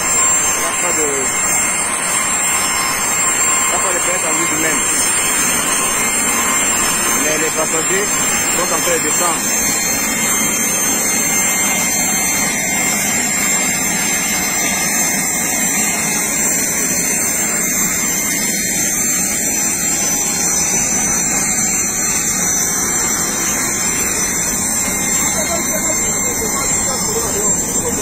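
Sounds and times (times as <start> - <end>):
engine rushing with high whine: 0.0 - 28.0.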